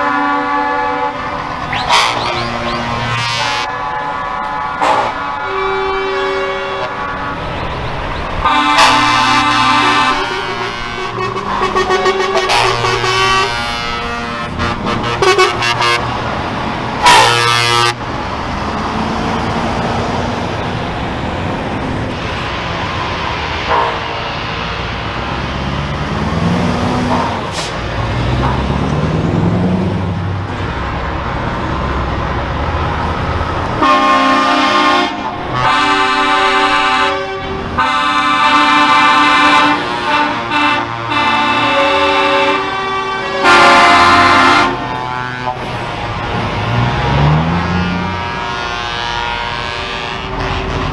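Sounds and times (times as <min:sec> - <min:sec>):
truck horns blasting: 0:00.0 - 0:29.2, 0:32.4 - 0:50.9
heavy truck engines: 0:00.0 - 0:50.9.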